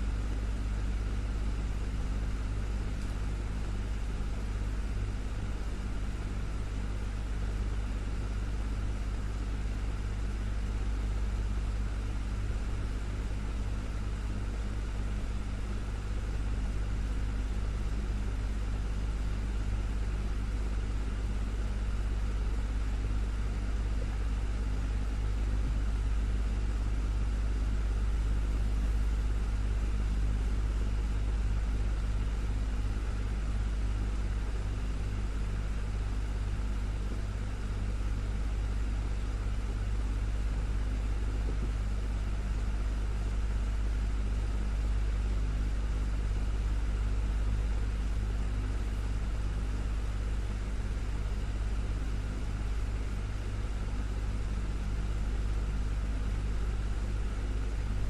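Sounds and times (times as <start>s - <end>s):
electric fan running: 0.0s - 58.0s.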